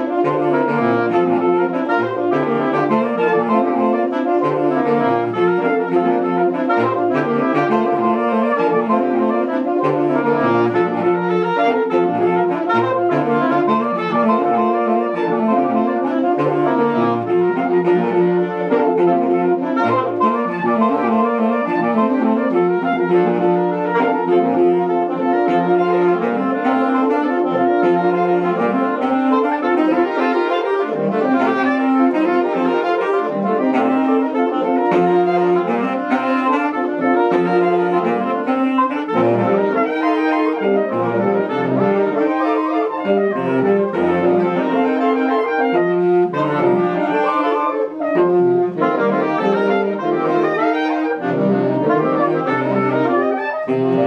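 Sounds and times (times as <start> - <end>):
saxophone quartet playing: 0.0 - 54.0.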